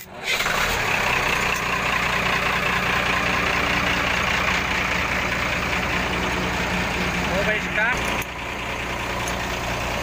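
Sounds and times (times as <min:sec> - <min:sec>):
diesel truck engine starting and running: 0:00.0 - 0:10.0.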